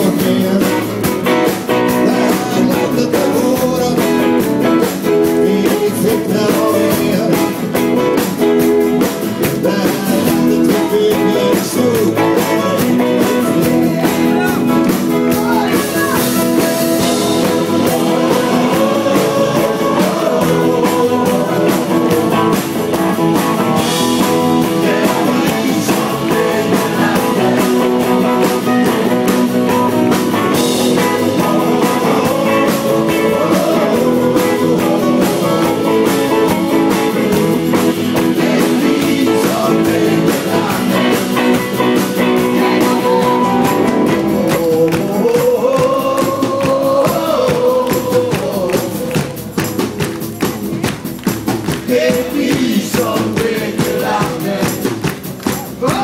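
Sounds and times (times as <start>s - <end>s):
men singing together: 0.0s - 49.7s, 51.6s - 56.0s
acoustic guitars and keyboard: 0.0s - 56.0s.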